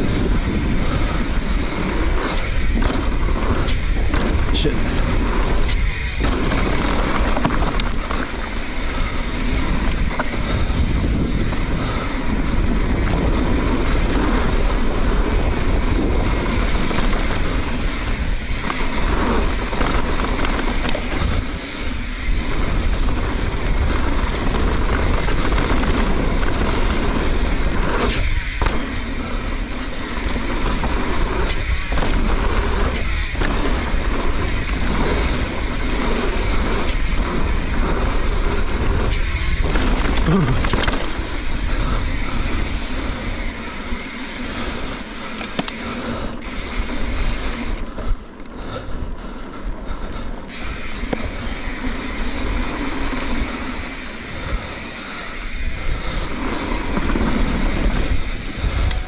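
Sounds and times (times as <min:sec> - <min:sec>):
tyres rolling over dirt: 0:00.0 - 0:47.8
wind rumbling on microphone: 0:00.0 - 0:59.0.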